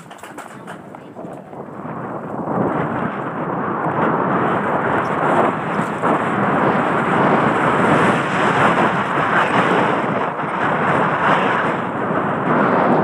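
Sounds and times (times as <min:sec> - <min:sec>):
bike tyres rattling on dirt: 0:00.0 - 0:13.0
wind rush on microphone: 0:00.0 - 0:13.0.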